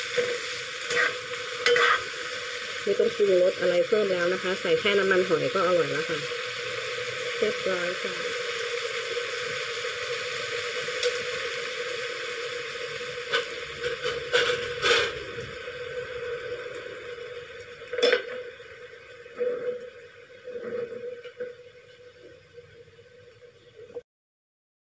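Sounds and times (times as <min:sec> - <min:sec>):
food sizzling in a wok: 0:00.0 - 0:23.9.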